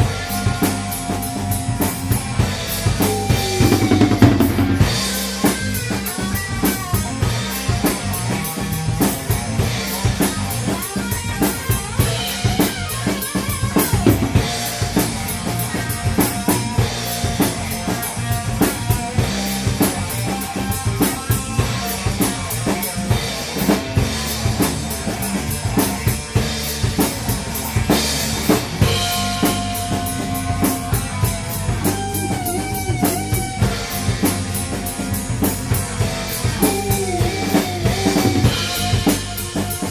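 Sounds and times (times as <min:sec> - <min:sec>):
music with drum beat: 0:00.0 - 0:39.9.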